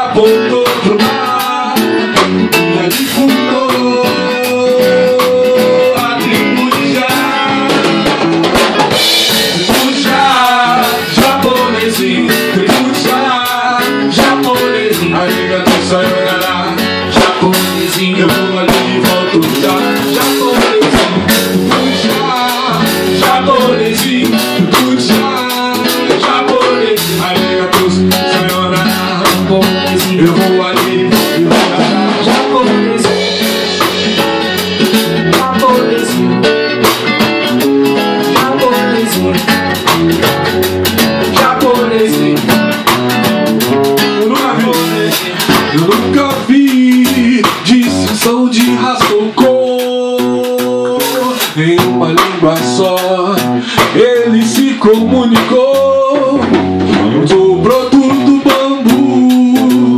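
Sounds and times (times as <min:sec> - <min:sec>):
sliding melody line: 0:00.0 - 0:53.3
drum kit: 0:00.0 - 0:59.9
guitars: 0:00.0 - 0:59.9.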